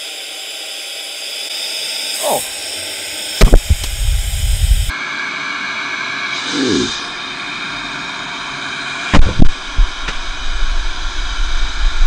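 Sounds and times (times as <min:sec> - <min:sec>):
air duster motor blowing: 0:00.0 - 0:12.0.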